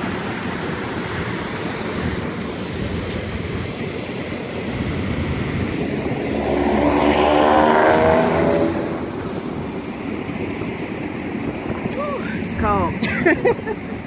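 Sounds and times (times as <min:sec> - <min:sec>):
engine passing by: 0:00.0 - 0:12.5
wind noise: 0:00.0 - 0:14.0.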